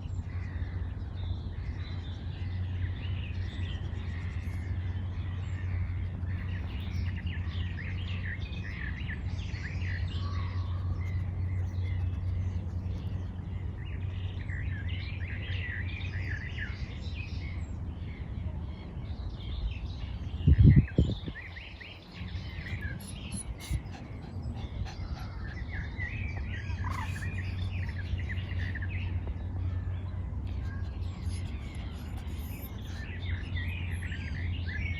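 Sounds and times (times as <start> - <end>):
songbirds chirping and singing: 0.0 - 34.9
steady low rumble: 0.0 - 34.9.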